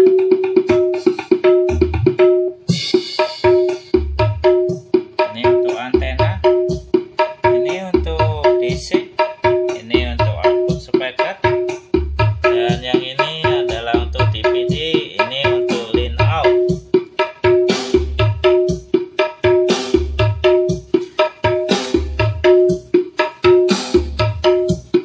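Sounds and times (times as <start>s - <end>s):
music with drums: 0.0s - 25.0s.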